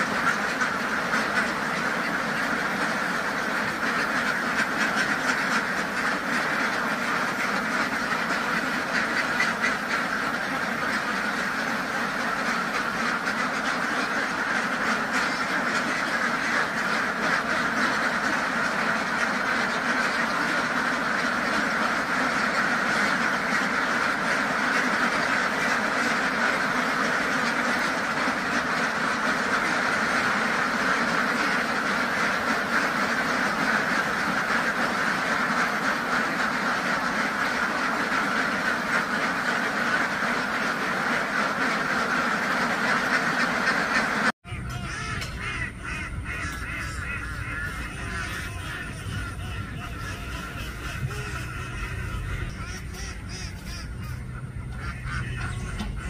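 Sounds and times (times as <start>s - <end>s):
flock of ducks quacking: 0.0s - 56.0s.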